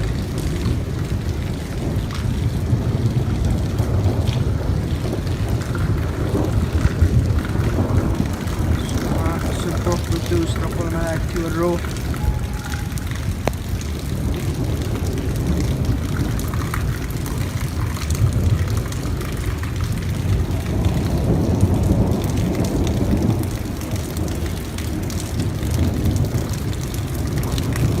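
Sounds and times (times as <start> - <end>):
heavy rain rushing: 0.0 - 28.0.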